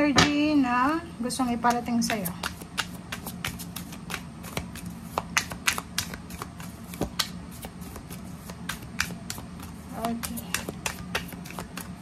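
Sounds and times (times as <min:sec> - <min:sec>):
cards being shuffled: 0:01.6 - 0:12.0.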